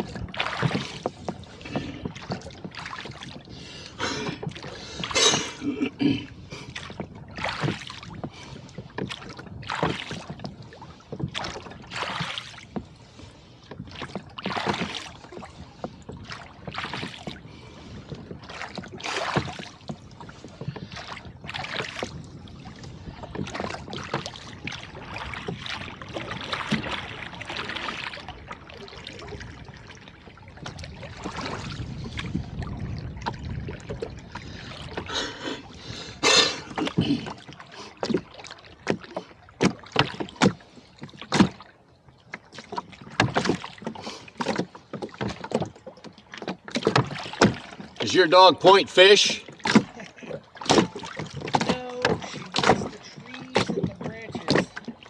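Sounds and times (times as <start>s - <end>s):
oars splashing in water: 0.0s - 55.0s.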